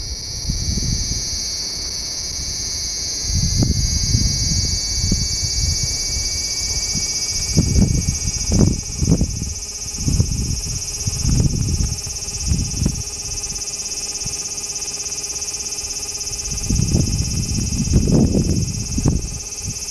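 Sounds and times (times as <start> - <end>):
cicada high-pitched drone: 0.0 - 19.9.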